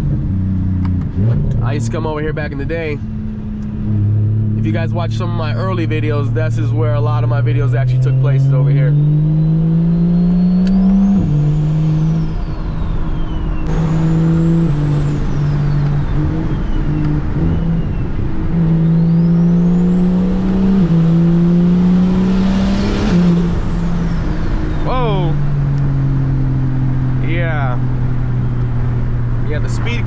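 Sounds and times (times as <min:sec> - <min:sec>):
car engine revving through gears: 0:00.0 - 0:30.0.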